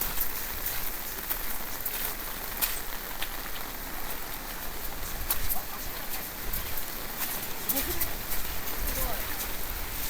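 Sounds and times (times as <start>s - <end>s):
rain and wind hiss: 0.0s - 10.0s.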